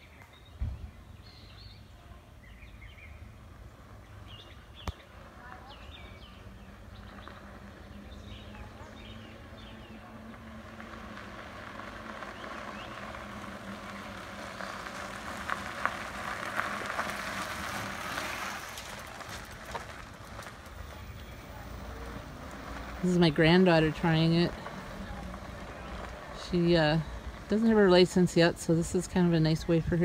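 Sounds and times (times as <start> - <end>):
tyres crunching over gravel: 2.5 - 30.0.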